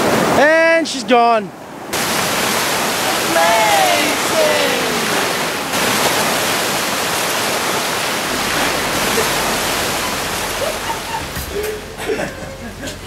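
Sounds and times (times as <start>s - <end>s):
surf rushing on a beach: 0.0s - 12.3s.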